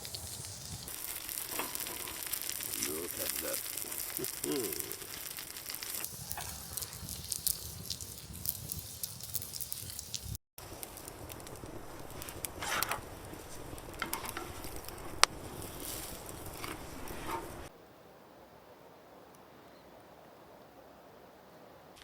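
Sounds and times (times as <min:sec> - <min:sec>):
campfire crackling and popping: 0:00.0 - 0:17.7.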